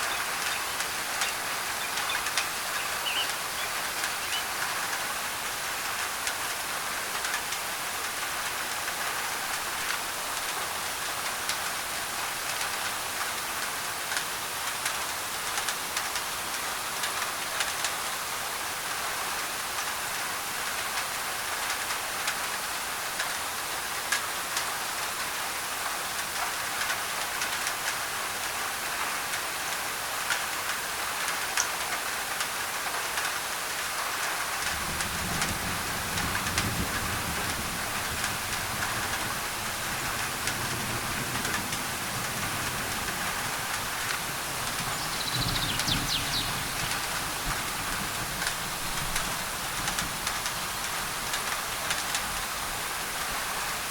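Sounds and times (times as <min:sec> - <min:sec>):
rain on a tin roof: 0:00.0 - 0:53.9.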